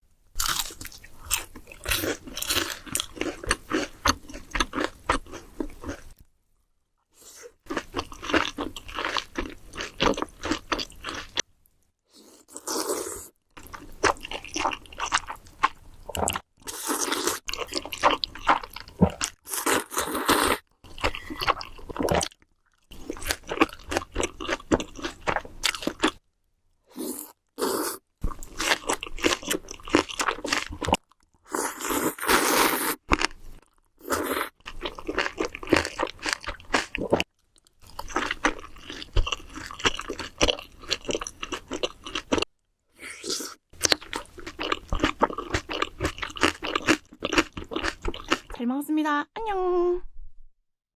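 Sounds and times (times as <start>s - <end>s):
crunchy food chewing: 0.4s - 6.2s, 7.4s - 11.4s, 12.2s - 26.3s, 27.0s - 48.6s.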